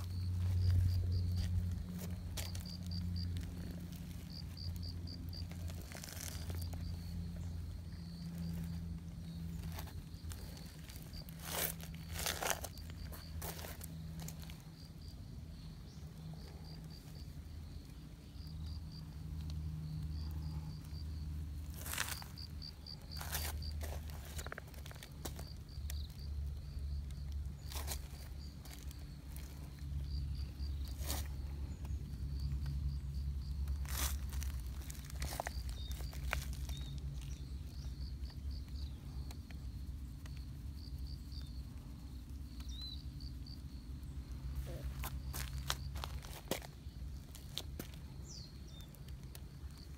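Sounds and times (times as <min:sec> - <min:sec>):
insect chirping in high pulses: 0:00.0 - 0:47.5
low steady hum: 0:00.0 - 0:49.9.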